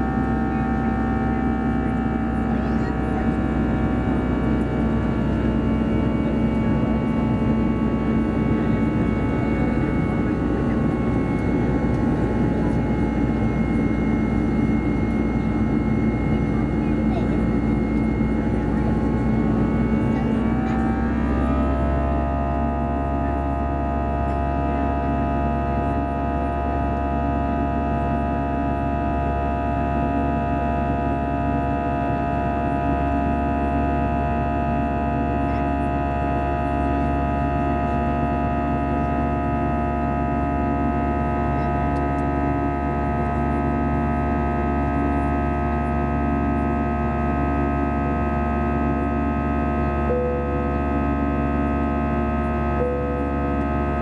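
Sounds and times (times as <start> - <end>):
jet engines humming in cabin: 0.0 - 54.0.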